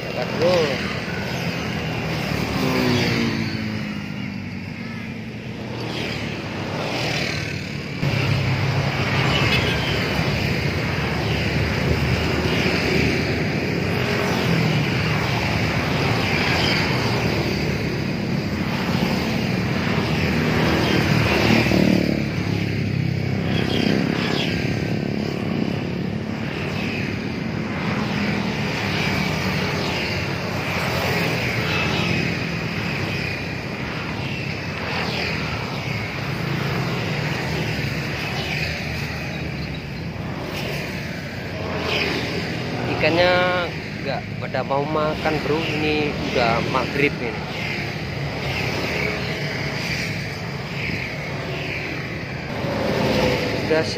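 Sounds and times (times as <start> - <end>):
motor drone: 0.0 - 53.9.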